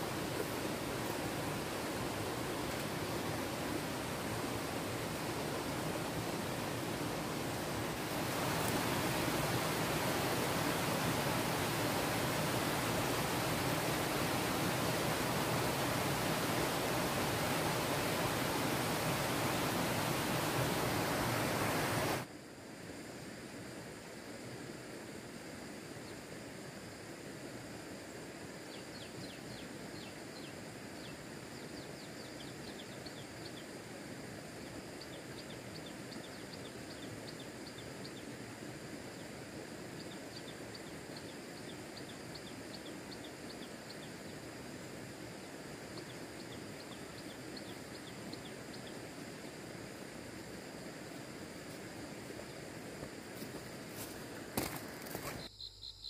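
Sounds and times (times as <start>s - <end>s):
steady background noise: 0.0s - 55.9s.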